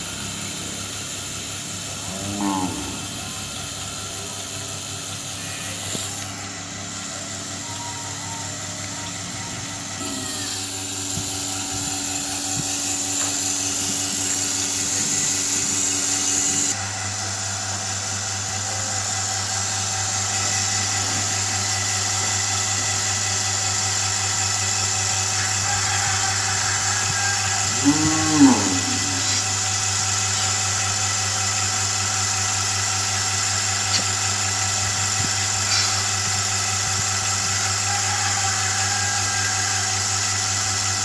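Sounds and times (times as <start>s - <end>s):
vacuum pump motor humming: 0.0s - 41.0s.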